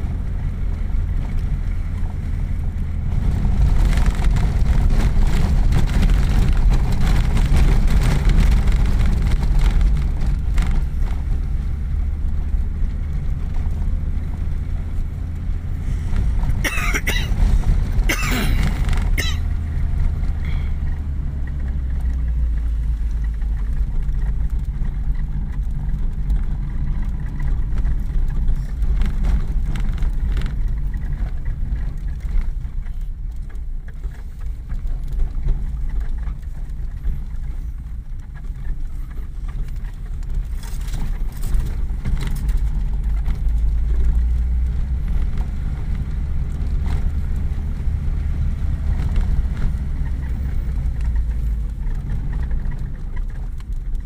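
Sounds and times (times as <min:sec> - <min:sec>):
body and dashboard rattling: 0:00.0 - 0:54.0
road noise: 0:00.0 - 0:54.0
vehicle engine drone: 0:00.0 - 0:54.0.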